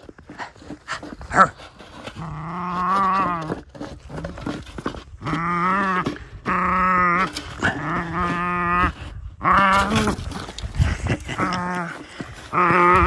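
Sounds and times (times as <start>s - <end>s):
puppy growling: 0.3s - 4.5s, 5.2s - 13.0s.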